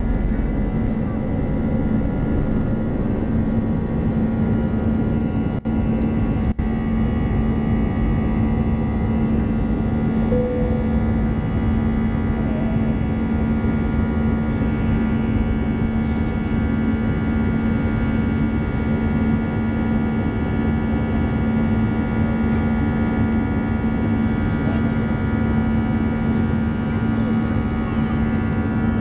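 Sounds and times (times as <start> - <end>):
jet engine and airflow rush in cabin: 0.0 - 29.0.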